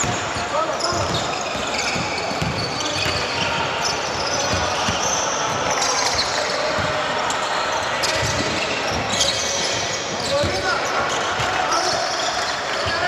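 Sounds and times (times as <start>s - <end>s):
basketball bouncing on court: 0.0s - 7.4s, 8.0s - 13.0s
background noise: 0.0s - 13.0s.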